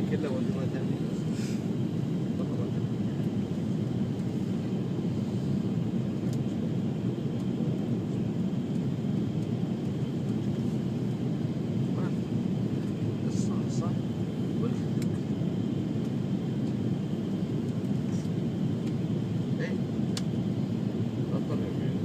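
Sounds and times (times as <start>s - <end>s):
jet engine and airflow in cabin: 0.0s - 22.0s.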